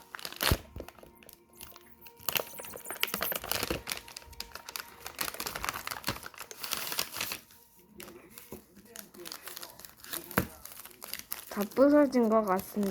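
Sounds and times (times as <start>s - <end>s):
wrapper crinkling: 0.0s - 12.9s.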